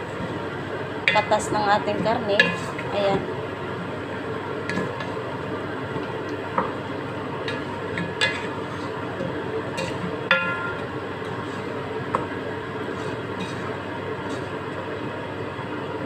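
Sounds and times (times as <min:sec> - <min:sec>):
wooden spoon stirring in metal pot: 0:00.0 - 0:14.6.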